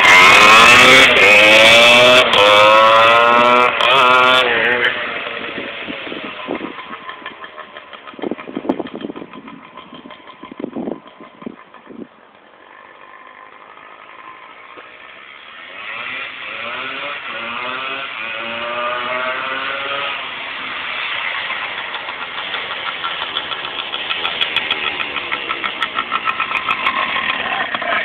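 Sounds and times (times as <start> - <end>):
dirt bike engine: 0.0 - 28.0.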